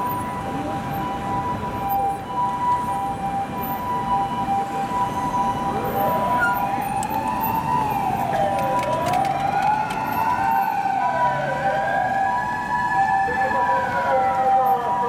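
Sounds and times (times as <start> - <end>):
emergency vehicle siren wailing: 0.0 - 15.0
steady siren tones: 0.0 - 15.0.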